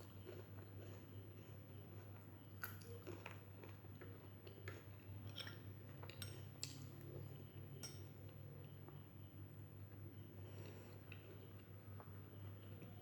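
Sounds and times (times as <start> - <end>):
low steady hum: 0.0 - 13.0
soft chewing: 0.0 - 13.0.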